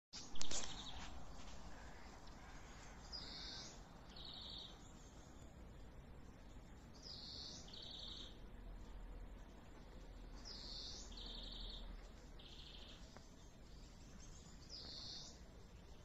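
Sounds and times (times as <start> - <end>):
outdoor background hiss: 0.2 - 16.0.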